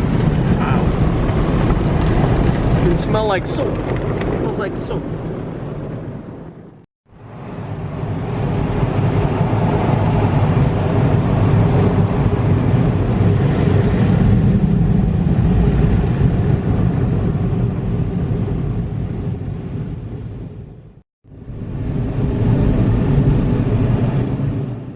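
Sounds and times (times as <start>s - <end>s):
car wash deep rushing noise: 0.0s - 6.4s, 7.2s - 20.8s, 21.4s - 24.9s.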